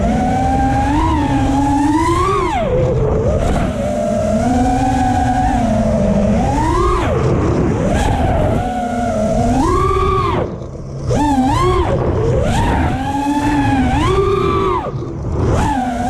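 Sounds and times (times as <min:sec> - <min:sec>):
drone motors whining: 0:00.0 - 0:16.0
wind rumble on microphone: 0:00.0 - 0:16.0.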